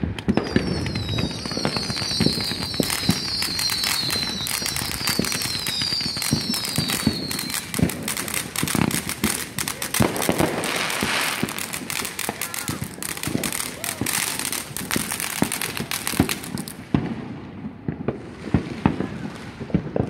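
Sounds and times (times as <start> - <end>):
fireworks crackling and banging: 0.0 - 20.0
fireworks whistles sliding down: 0.2 - 16.7.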